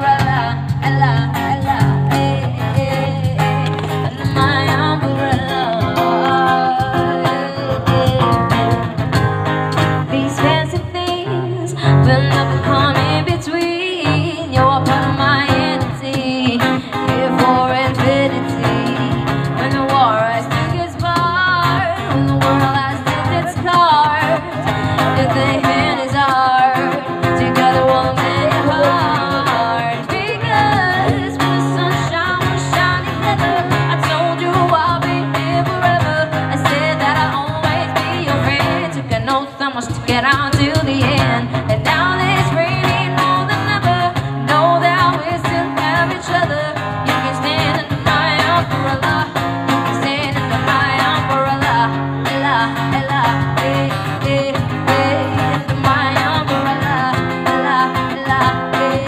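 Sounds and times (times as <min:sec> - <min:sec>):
person singing: 0:00.0 - 0:09.0, 0:09.9 - 0:59.0
acoustic guitar: 0:00.0 - 0:59.0.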